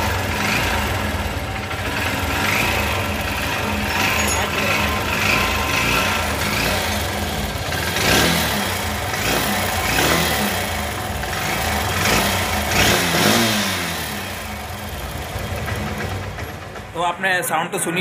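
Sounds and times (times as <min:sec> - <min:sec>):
metallic engine rattle: 0:00.0 - 0:13.0, 0:14.0 - 0:17.4
motorcycle engine revving: 0:00.0 - 0:17.0.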